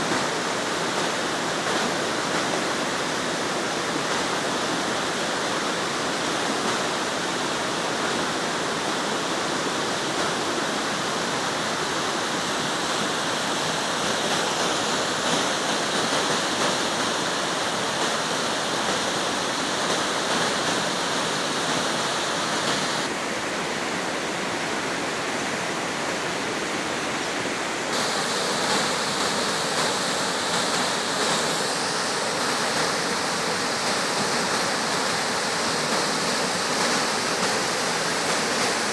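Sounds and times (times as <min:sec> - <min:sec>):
waterfall roar: 0:00.0 - 0:38.9.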